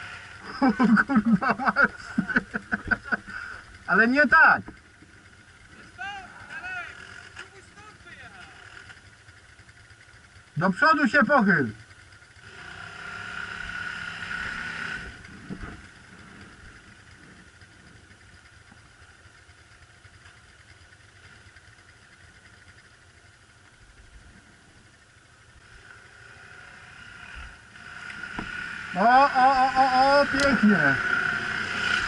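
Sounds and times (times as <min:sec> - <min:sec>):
quad bike engines idling: 0:00.0 - 0:32.0.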